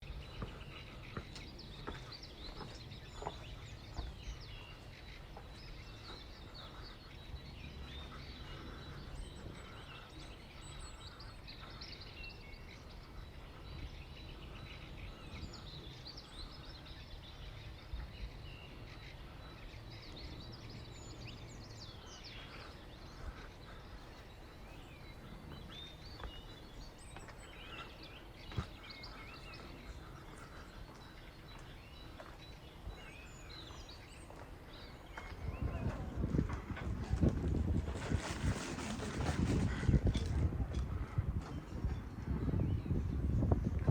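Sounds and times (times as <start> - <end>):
birds chirping and twittering: 0.0 - 43.9.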